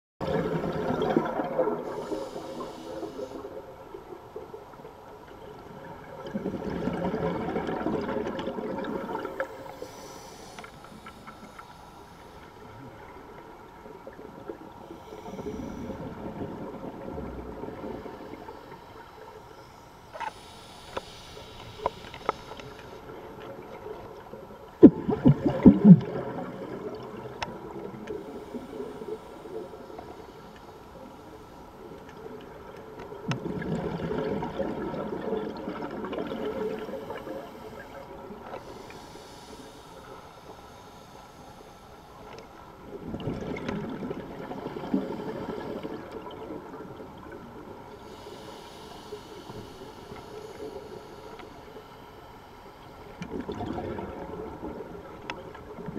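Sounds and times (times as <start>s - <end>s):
underwater exhaled bubbles gurgling: 0.2s - 11.6s, 12.4s - 19.5s, 21.7s - 40.4s, 42.2s - 52.0s, 53.1s - 55.9s.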